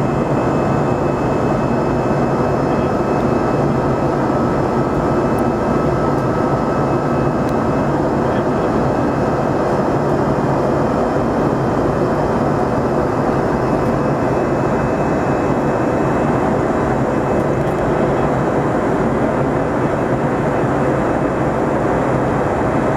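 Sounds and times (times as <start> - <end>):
airplane cabin engine roar: 0.0 - 22.9.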